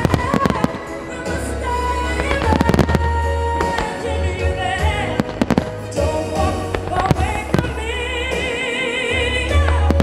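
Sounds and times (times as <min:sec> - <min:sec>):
firework bangs: 0:00.0 - 0:08.6
loud music with singing: 0:00.0 - 0:10.0.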